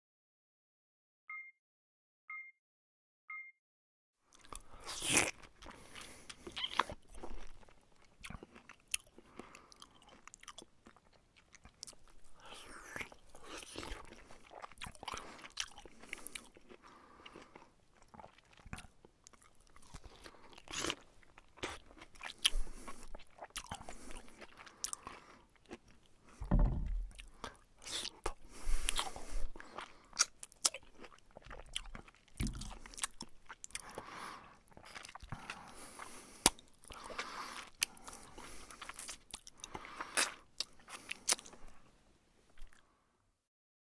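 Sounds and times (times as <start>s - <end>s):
person eating noisily: 4.3s - 41.8s.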